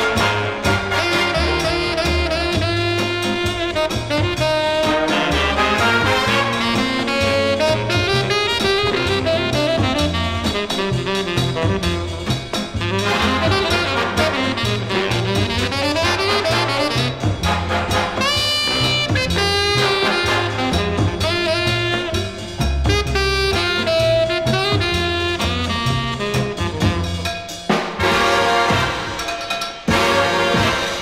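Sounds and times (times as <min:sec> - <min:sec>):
big band swing music: 0:00.0 - 0:31.0.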